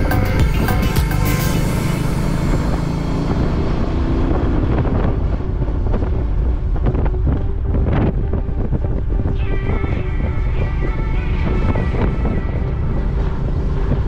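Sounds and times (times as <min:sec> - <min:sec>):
background music: 0:00.0 - 0:14.0
wind rumbling on microphone: 0:00.0 - 0:14.0.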